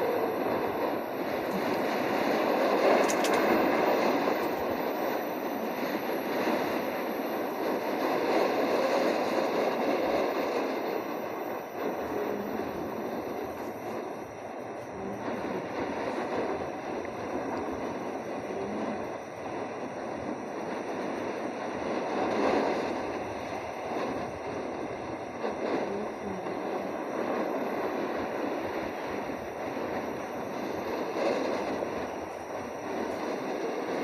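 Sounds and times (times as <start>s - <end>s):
strong wind on microphone: 0.0s - 34.0s.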